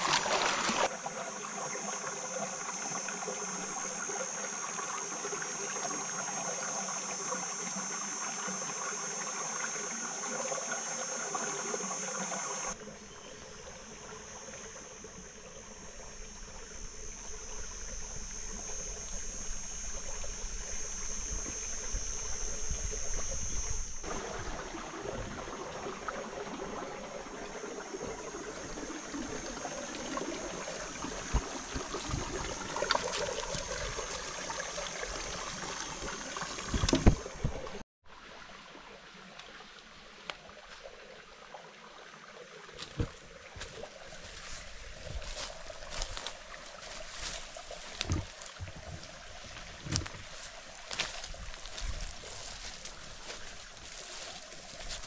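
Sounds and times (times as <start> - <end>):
high insect drone: 0.0 - 37.8, 39.4 - 55.0
water trickling: 0.0 - 55.0.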